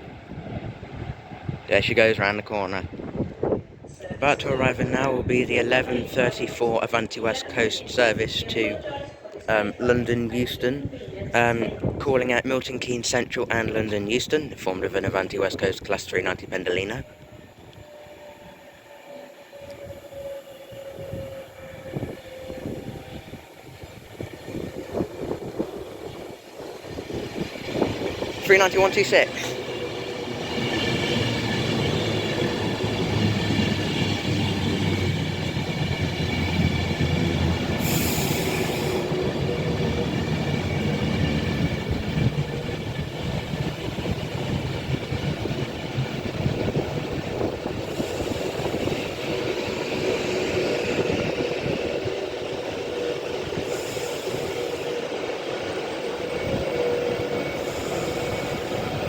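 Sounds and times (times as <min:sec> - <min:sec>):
high whine of electric train: 0:00.0 - 0:12.0, 0:13.6 - 0:59.0
train wheels rumbling on rails: 0:00.0 - 0:59.0.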